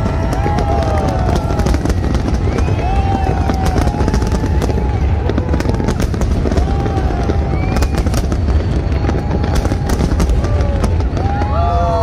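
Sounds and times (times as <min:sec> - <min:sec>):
firework shells bursting: 0:00.0 - 0:11.4
fireworks crackling: 0:00.0 - 0:12.0.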